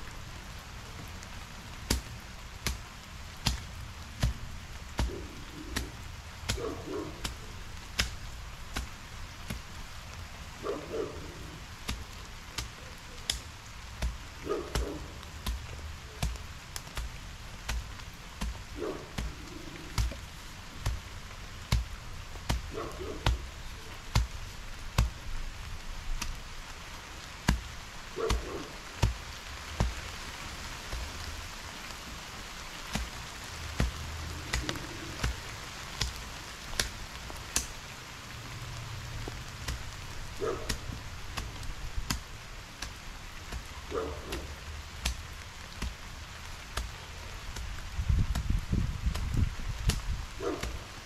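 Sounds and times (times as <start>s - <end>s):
garden tool chopping soil: 1.9s - 10.0s, 10.9s - 25.4s, 27.2s - 30.0s, 32.8s - 37.8s, 39.2s - 51.0s.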